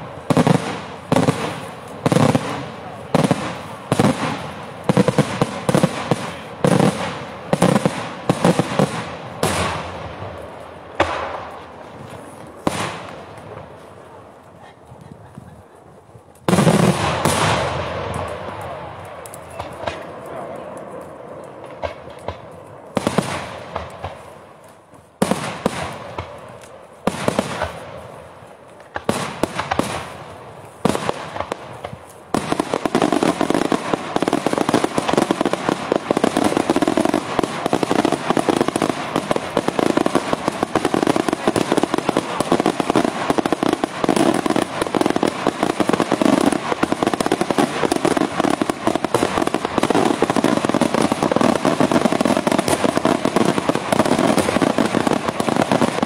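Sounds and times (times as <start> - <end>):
rapid firework bangs and crackling: 0.0 - 56.0.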